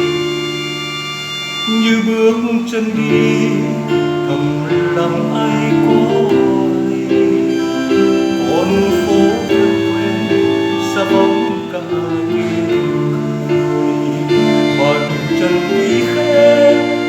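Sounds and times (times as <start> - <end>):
guitar playing over chords: 0.0 - 17.0
lively instrumental melody: 0.0 - 17.0.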